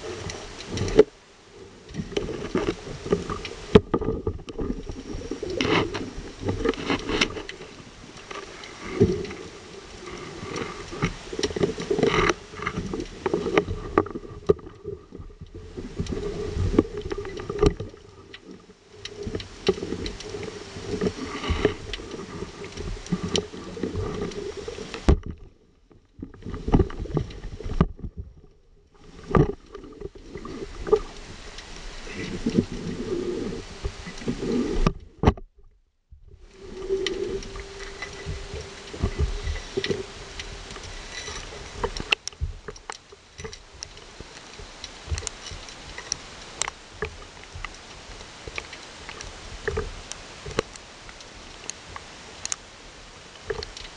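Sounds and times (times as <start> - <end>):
muffled underwater sloshing: 0.0 - 53.9.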